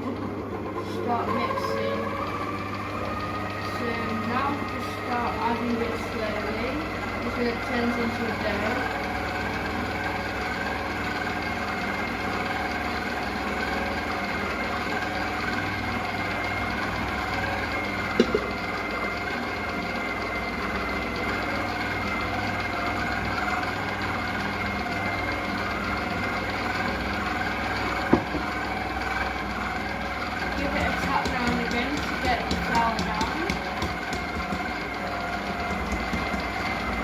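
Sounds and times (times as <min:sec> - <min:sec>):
stand mixer humming: 0:00.0 - 0:37.0.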